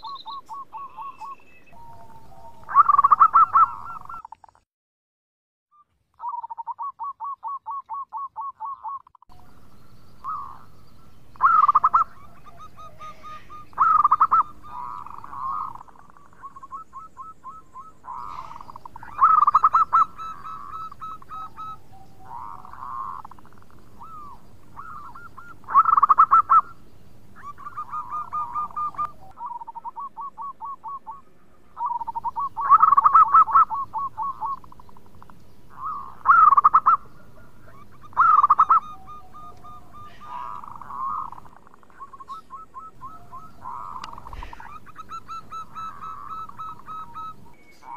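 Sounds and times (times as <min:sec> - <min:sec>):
dove cooing: 0:00.0 - 0:04.4, 0:10.2 - 0:47.9.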